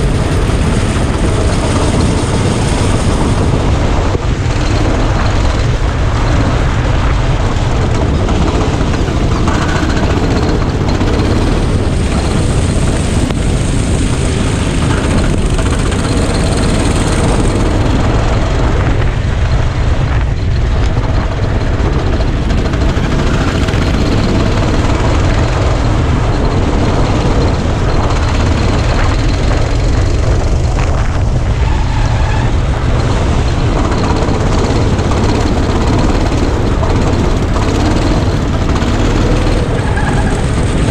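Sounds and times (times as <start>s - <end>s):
go-kart engine running: 0.0s - 40.9s
wind rumble on microphone: 0.0s - 40.9s.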